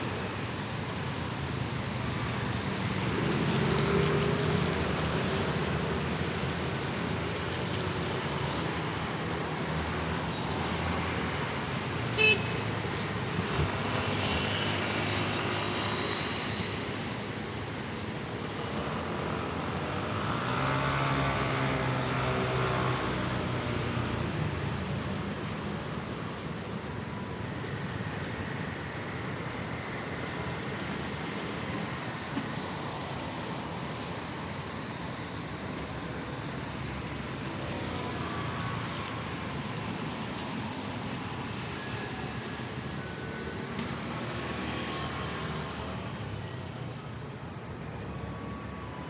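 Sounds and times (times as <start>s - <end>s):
tyres on wet road: 0.0s - 49.0s
vehicles passing: 0.0s - 49.0s.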